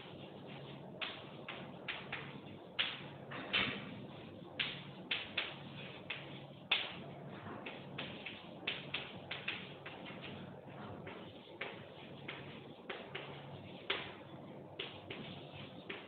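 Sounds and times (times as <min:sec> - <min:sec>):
chalk tapping on a blackboard: 0:00.0 - 0:16.0
low steady hum: 0:00.0 - 0:16.0.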